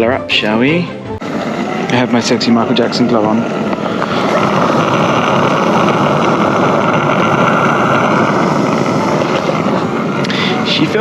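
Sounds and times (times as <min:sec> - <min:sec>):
gas hissing from canister: 0:01.2 - 0:11.0.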